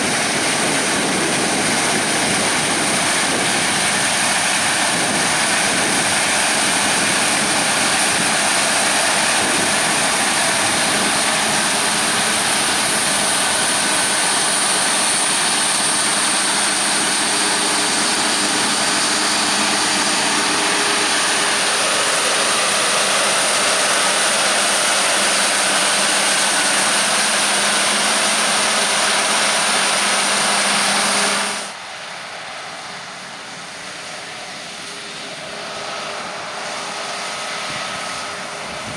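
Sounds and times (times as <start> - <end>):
harvest machinery running: 0.0 - 38.9
high-pitched machine whine: 0.0 - 38.9.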